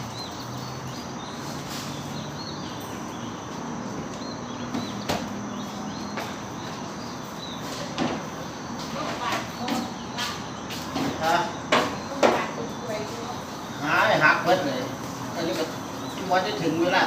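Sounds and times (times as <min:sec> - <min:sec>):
small birds chirping faintly: 0:00.0 - 0:17.0
steady noisy background: 0:00.0 - 0:17.0.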